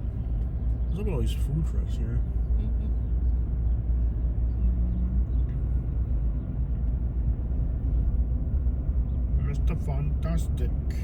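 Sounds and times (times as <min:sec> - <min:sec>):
truck driving: 0:00.0 - 0:11.0.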